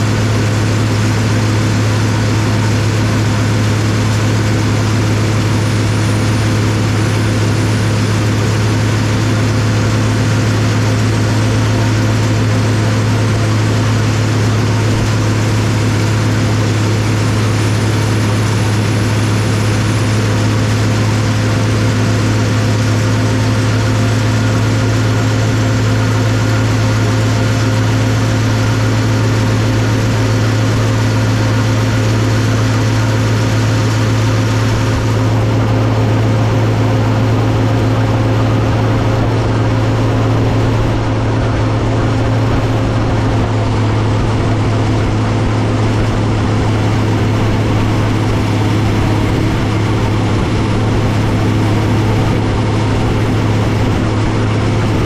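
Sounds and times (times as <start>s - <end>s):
tractor diesel engine humming: 0.0s - 55.0s.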